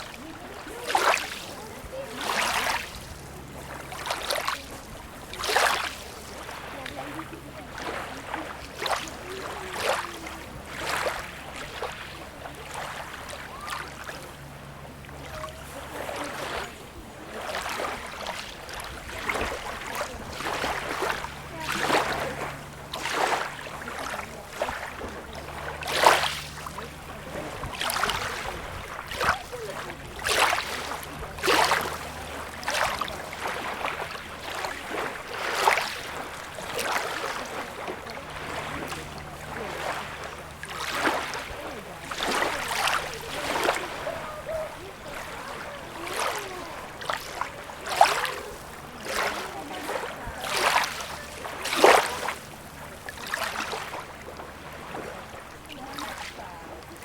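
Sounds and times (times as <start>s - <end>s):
small waves lapping at shore: 0.0s - 57.0s.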